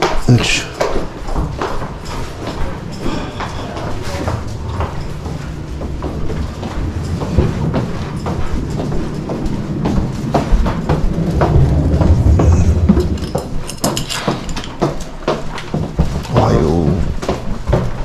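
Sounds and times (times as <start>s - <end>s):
footsteps on hallway floor: 0.0s - 18.0s.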